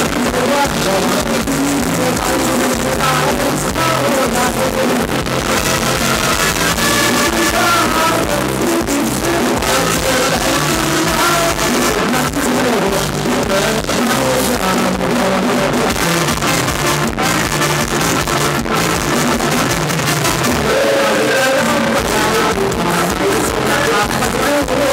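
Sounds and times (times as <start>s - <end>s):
live dance band playing: 0.0s - 24.9s
drum kit and cymbals: 1.8s - 23.9s.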